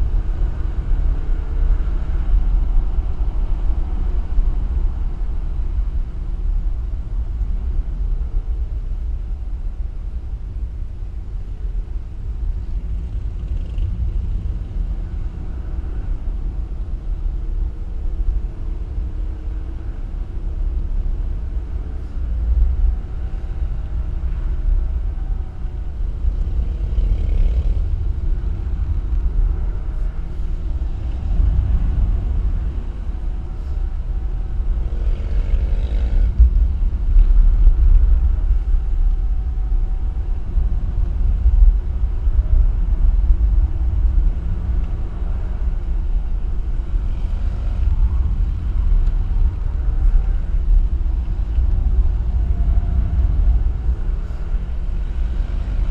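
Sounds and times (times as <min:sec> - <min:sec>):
vehicle engine and road rumble: 0:00.0 - 0:55.9.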